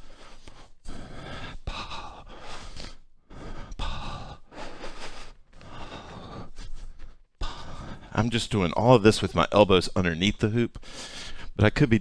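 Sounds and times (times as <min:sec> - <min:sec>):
person breathing heavily: 0:00.0 - 0:09.6, 0:10.8 - 0:11.6.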